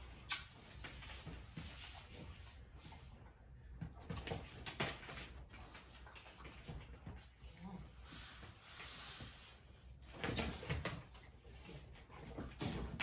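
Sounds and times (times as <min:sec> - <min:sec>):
dog paws pattering on foam mats: 0:00.0 - 0:13.0.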